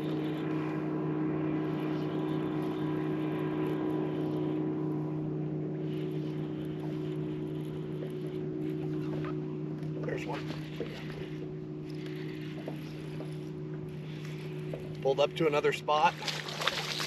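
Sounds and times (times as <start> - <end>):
electric trolling motor humming: 0.0 - 17.0.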